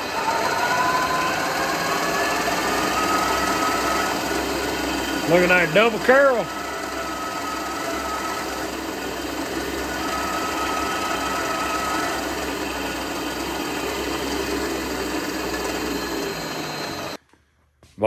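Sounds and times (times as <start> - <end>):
drill press drilling metal: 0.0 - 17.2
faint whine: 0.0 - 17.2.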